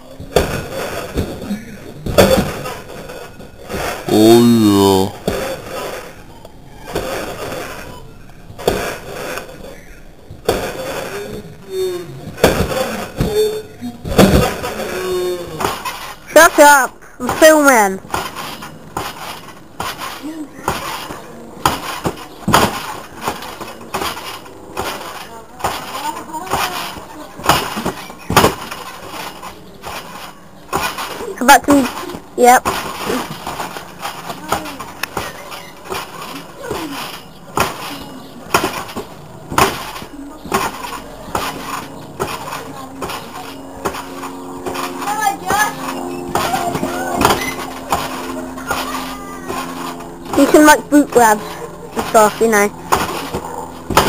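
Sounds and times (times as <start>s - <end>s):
trampoline springs clanking: 0.0s - 54.0s
trampoline mat thumping: 0.2s - 4.2s, 12.2s - 14.9s, 17.3s - 54.0s.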